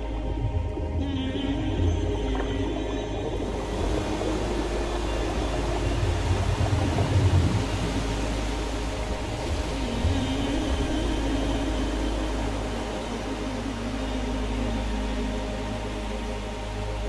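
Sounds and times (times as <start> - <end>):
wind buffeting microphone: 0.0 - 14.4
low rumble: 0.0 - 17.0.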